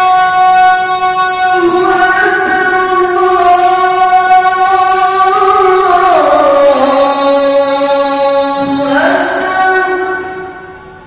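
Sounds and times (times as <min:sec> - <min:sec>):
person singing long notes: 0:00.0 - 0:10.7.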